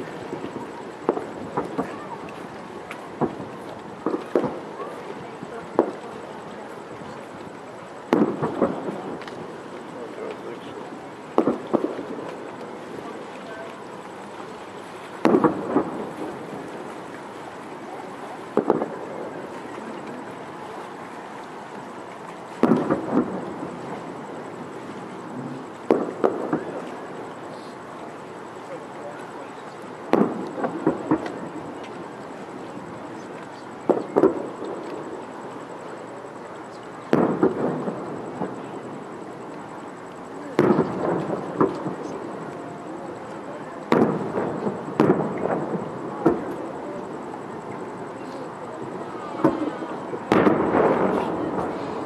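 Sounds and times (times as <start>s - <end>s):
fireworks booming bangs: 0.0s - 52.0s
steady background hiss: 0.0s - 52.0s.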